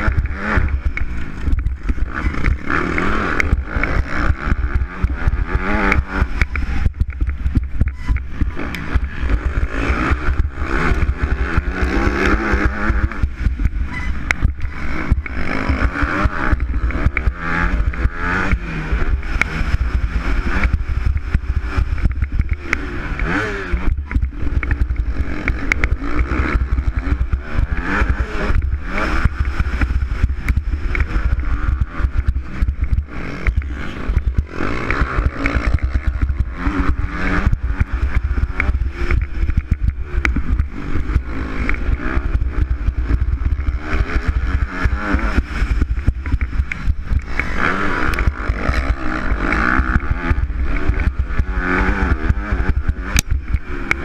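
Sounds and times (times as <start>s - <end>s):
knocks and rattles over bumps: 0.0s - 54.0s
low rumbling: 0.0s - 54.0s
motocross bike engine revving: 0.0s - 54.0s.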